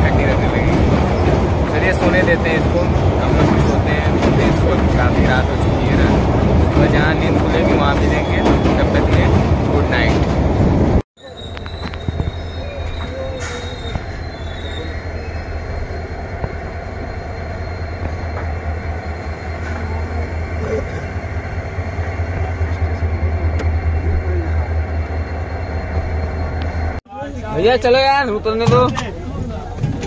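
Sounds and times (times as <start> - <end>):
train carriage rumbling: 0.0 - 30.0.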